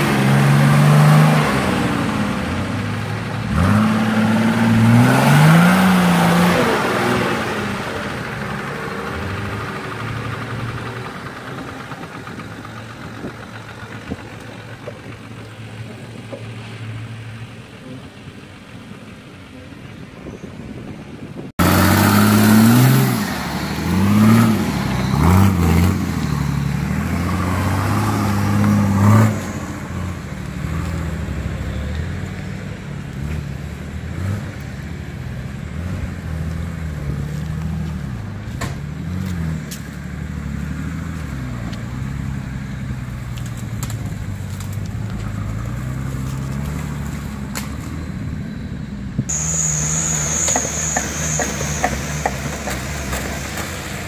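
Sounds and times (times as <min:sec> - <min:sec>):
off-road vehicle engine revving: 0:00.0 - 0:20.0, 0:21.4 - 0:54.0.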